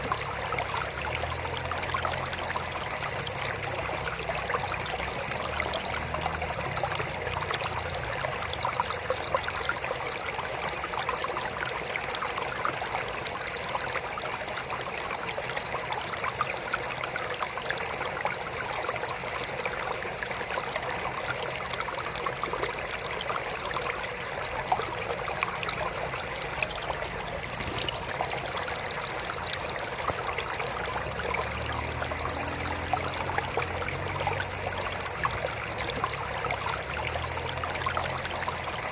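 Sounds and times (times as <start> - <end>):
water trickling in aquarium: 0.0 - 38.9.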